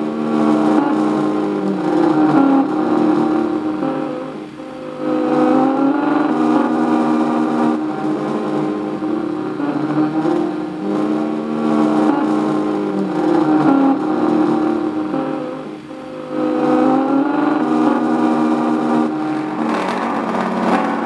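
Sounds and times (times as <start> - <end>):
synthesized buzzy drone: 0.0 - 21.0.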